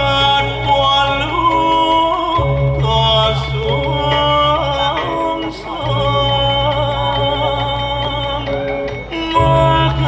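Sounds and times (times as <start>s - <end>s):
gamelan ensemble playing: 0.0s - 10.0s
ringing metallophone tones: 0.0s - 10.0s.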